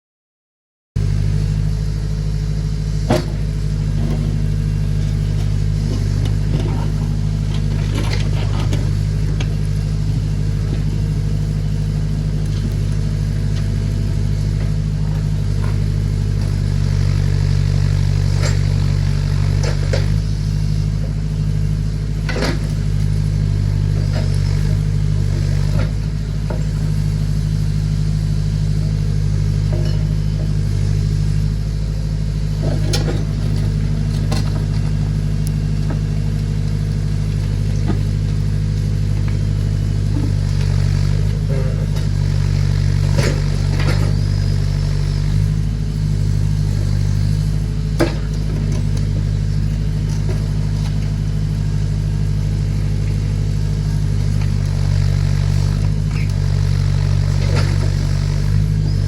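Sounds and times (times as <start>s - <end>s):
tractor engine running: 1.0s - 59.0s.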